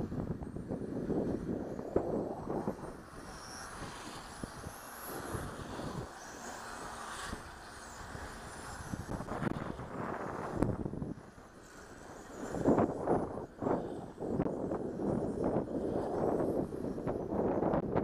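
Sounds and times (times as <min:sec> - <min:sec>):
wind on microphone: 0:00.0 - 0:18.0
electric motors whining: 0:00.2 - 0:18.0.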